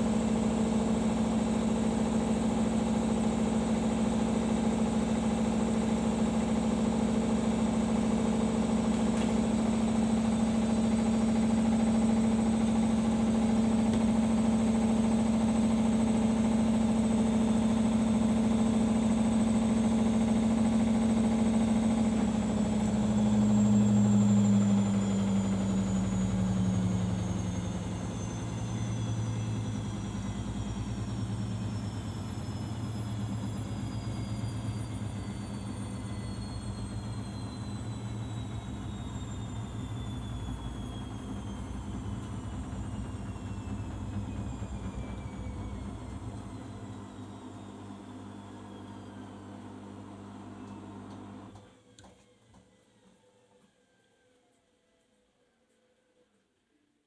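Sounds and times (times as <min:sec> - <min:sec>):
washing machine spinning: 0:00.0 - 0:51.6.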